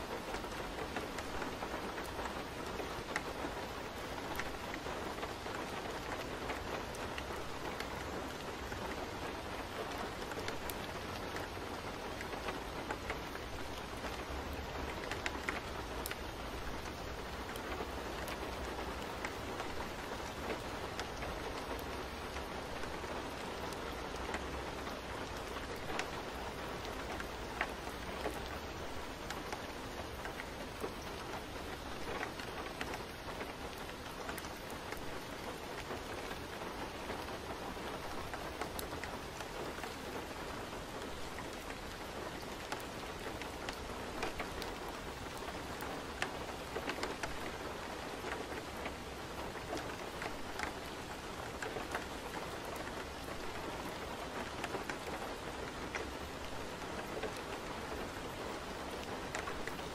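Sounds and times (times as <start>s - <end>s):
raindrops ticking: 0.0s - 59.9s
steady rain hiss: 0.0s - 59.9s.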